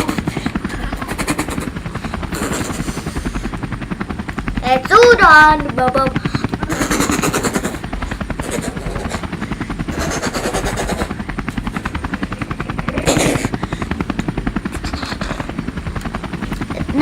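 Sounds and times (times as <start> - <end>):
toy helicopter rotor chopping: 0.0 - 17.0.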